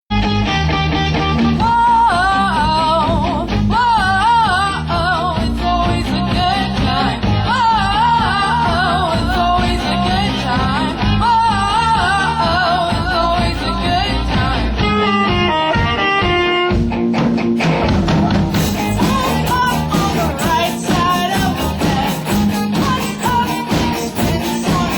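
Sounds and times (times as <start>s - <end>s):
bass: 0.1s - 24.9s
guitar: 0.1s - 24.9s
person singing with vibrato: 1.2s - 16.8s, 18.1s - 24.9s.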